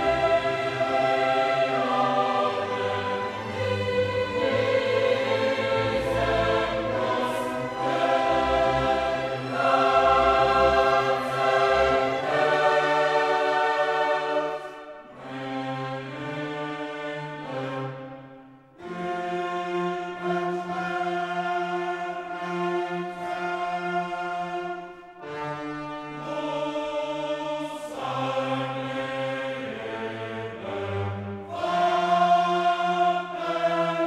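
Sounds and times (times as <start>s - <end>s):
choir with orchestra: 0.0s - 34.0s.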